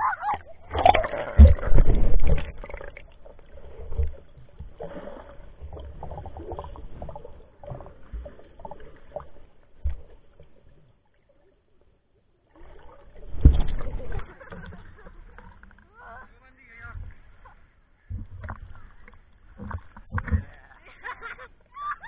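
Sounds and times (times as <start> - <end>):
muffled underwater sloshing: 0.0 - 22.0.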